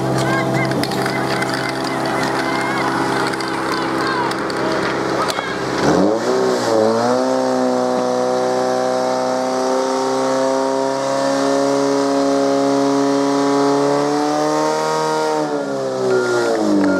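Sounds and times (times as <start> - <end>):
pump engine running at high revs: 0.0 - 16.9.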